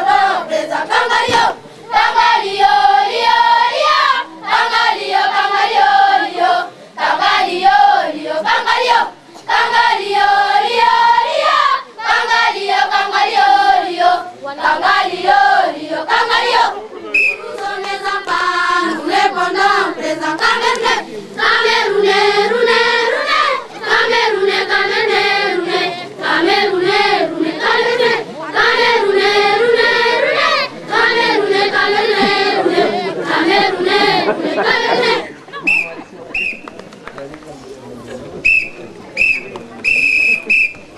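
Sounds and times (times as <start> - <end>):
young voices chanting in unison: 0.0 - 35.4.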